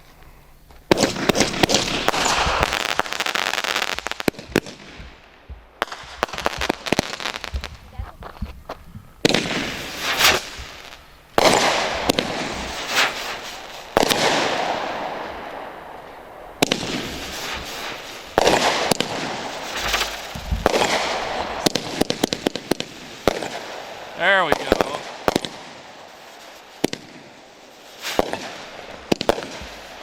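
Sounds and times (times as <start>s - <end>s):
fireworks bursting: 0.0s - 30.0s
hissing crackling fireworks tail: 0.0s - 30.0s.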